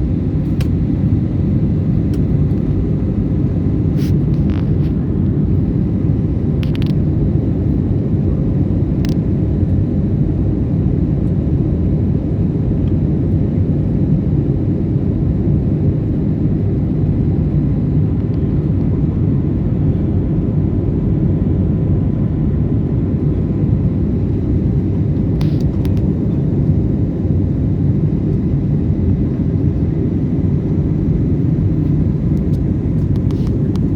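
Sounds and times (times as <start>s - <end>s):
jet engine rumble inside cabin: 0.0s - 33.9s.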